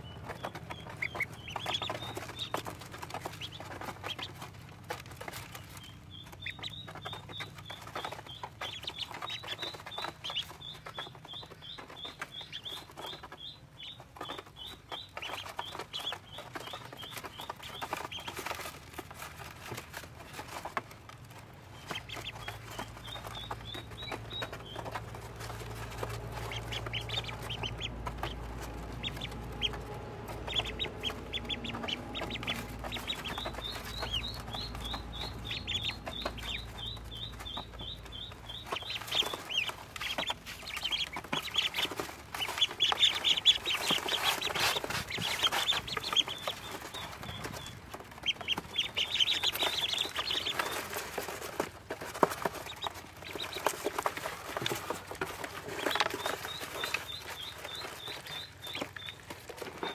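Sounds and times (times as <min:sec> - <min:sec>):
bills pecking on plastic tub: 0:00.0 - 0:59.9
ducklings peeping: 0:00.0 - 0:59.9.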